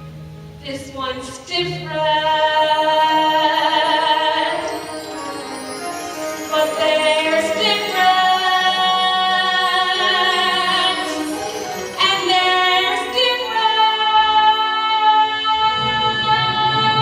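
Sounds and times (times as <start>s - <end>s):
musical theatre singing: 0.0s - 17.0s.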